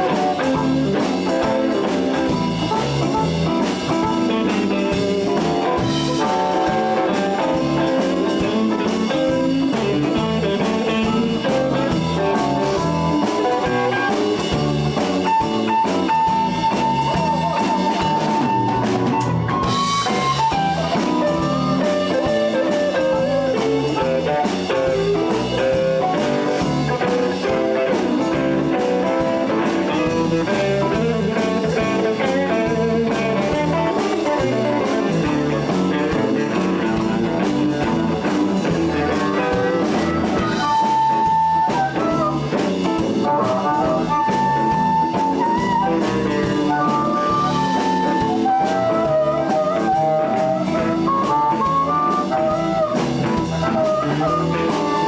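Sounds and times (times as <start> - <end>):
blues band playing: 0.0 - 55.0
long held high guitar notes: 0.0 - 55.0.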